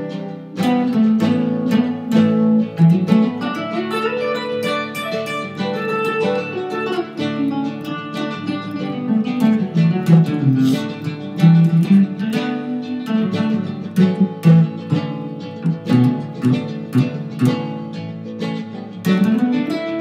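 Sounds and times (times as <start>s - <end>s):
acoustic guitar plucking and strumming: 0.0s - 20.0s.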